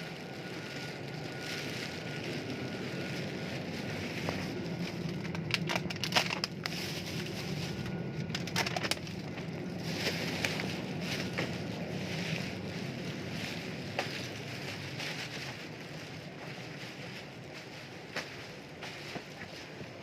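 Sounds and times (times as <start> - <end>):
airport background hum: 0.0 - 20.0
faint steady whine: 0.0 - 20.0.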